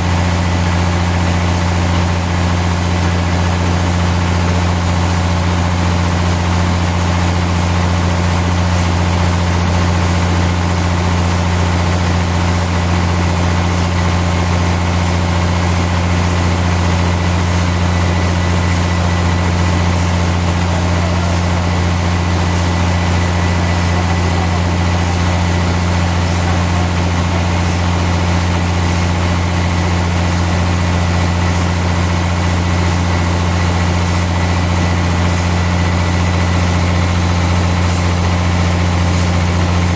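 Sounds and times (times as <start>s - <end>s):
deep machinery hum: 0.0s - 39.9s.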